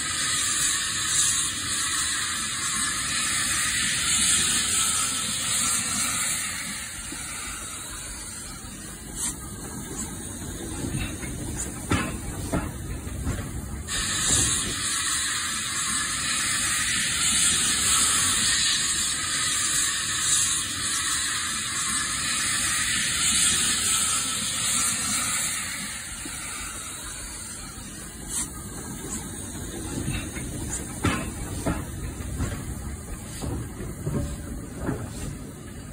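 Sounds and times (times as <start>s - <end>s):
model locomotive steam hiss: 0.0s - 35.9s
model train rumbling on track: 0.0s - 35.9s.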